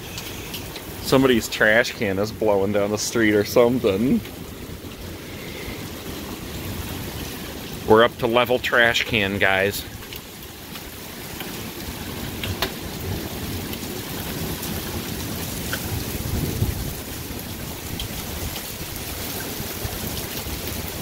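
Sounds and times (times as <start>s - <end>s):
gusting wind: 0.0s - 21.0s
steady rain: 0.0s - 21.0s
thunder rumble: 0.6s - 8.2s, 11.6s - 21.0s.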